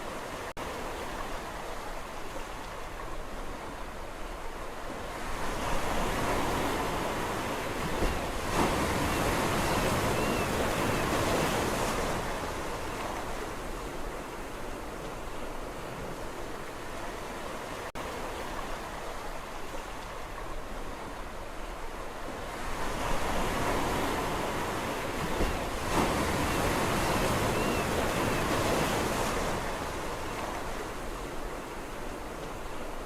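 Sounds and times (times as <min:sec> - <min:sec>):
sea waves on a shore: 0:00.0 - 0:33.0.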